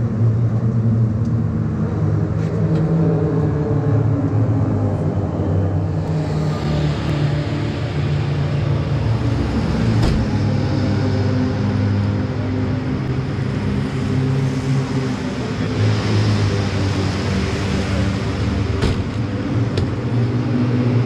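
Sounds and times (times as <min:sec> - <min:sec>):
race car engines running: 0:00.0 - 0:21.0.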